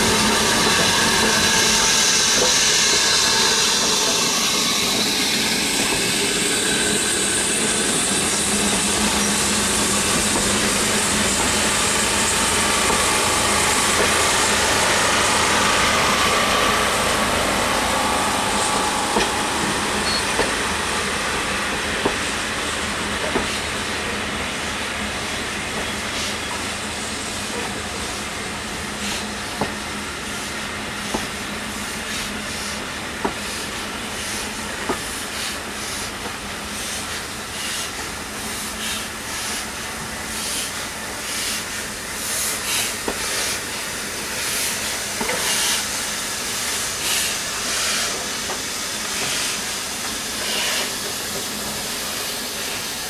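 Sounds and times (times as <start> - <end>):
train wheels clicking over rail joints: 0.0 - 24.5, 29.0 - 53.0
rhythmic steam locomotive hiss: 0.0 - 53.0.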